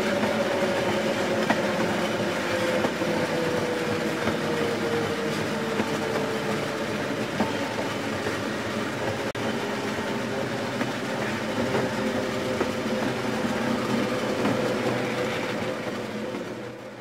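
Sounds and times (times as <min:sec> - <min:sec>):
train rumbling clatter: 0:00.0 - 0:17.0
train whine: 0:00.0 - 0:17.0.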